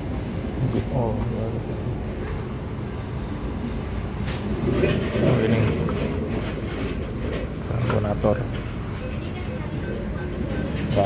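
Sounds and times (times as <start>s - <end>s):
shop background rumble: 0.3s - 11.0s.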